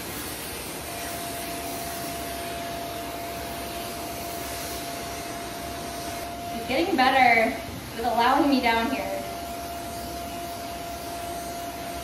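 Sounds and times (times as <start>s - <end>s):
grooming vacuum suction with whine: 0.0s - 12.0s.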